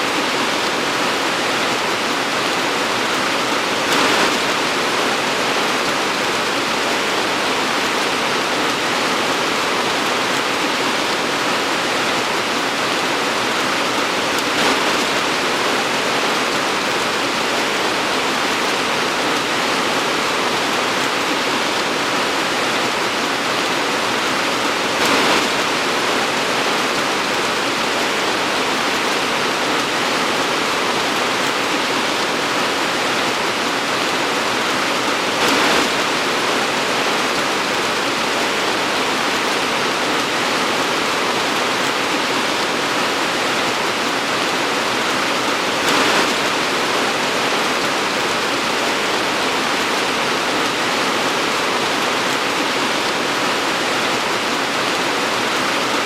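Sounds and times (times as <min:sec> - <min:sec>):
torrential rain hissing: 0:00.0 - 0:56.0.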